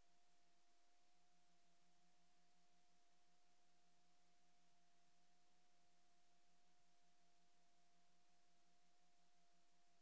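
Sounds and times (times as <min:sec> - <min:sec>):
faint hum and hiss: 0:00.0 - 0:10.0.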